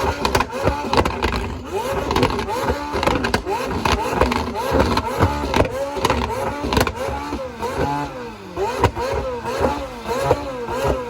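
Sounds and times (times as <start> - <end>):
car engine revving in blips: 0.0 - 11.0
exhaust pops: 0.0 - 11.0.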